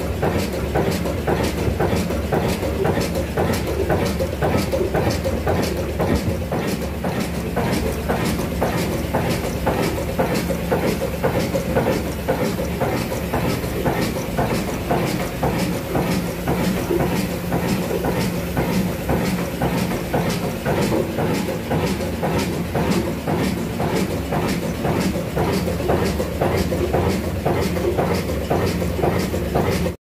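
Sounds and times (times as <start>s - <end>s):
diesel engine knocking: 0.0s - 30.0s.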